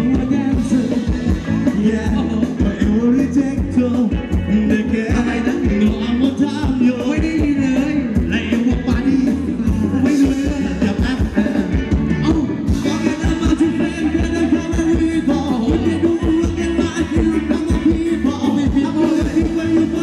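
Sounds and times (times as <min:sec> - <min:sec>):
band playing upbeat dance song: 0:00.0 - 0:20.0
person singing: 0:00.0 - 0:20.0
steady drumbeat: 0:00.0 - 0:20.0.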